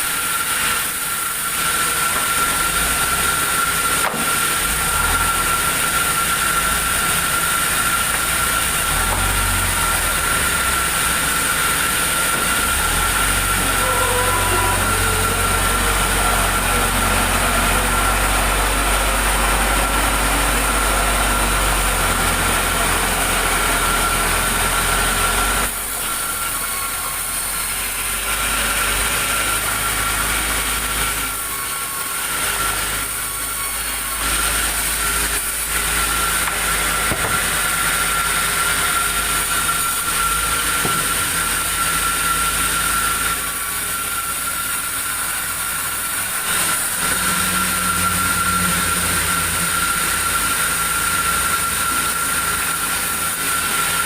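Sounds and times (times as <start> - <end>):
sawmill machinery whining: 0.0 - 54.0.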